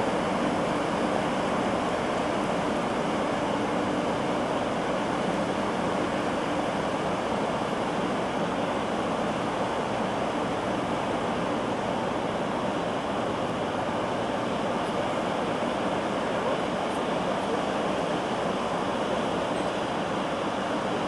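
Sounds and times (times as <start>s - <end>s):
water rushing in canal lock: 0.0s - 21.0s.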